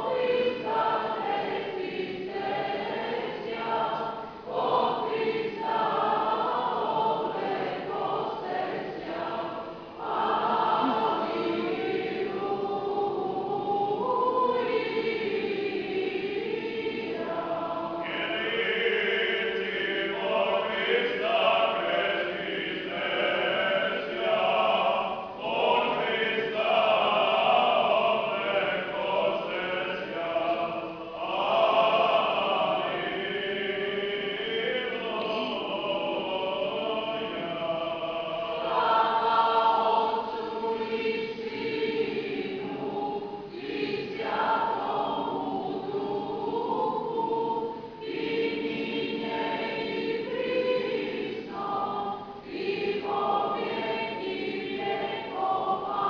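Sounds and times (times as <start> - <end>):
choir singing chant: 0.0 - 56.0.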